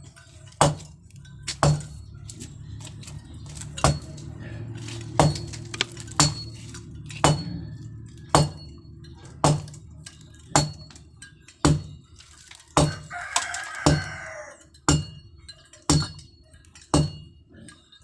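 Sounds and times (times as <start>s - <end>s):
hammer striking metal: 0.0s - 17.4s.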